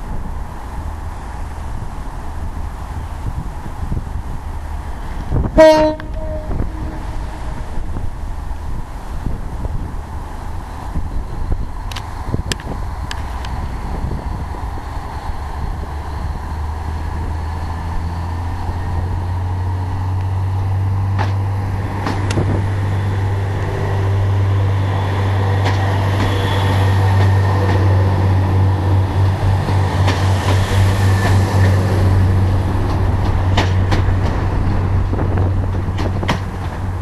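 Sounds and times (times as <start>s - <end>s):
diesel train engine drone: 0.0s - 37.0s.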